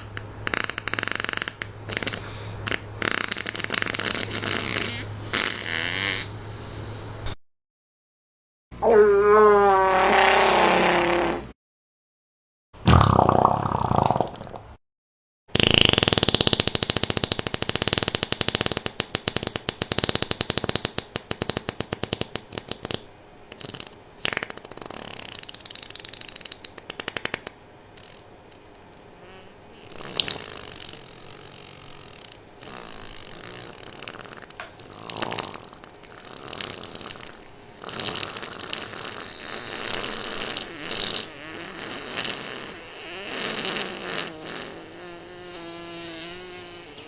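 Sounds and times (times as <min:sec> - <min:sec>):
fart sound effects: 0:00.0 - 0:06.7, 0:08.8 - 0:11.6, 0:12.8 - 0:14.6, 0:15.5 - 0:28.3, 0:29.2 - 0:47.0.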